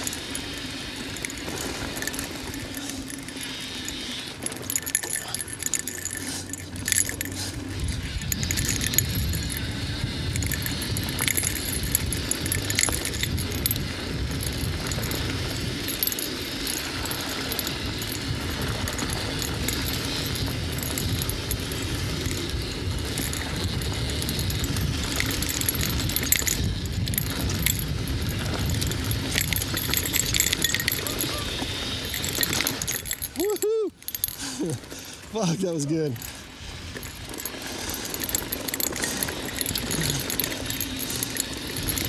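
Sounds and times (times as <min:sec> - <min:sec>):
bike rattling and jingling: 0:00.0 - 0:42.0
tyres rumbling over dirt trail: 0:00.0 - 0:42.0.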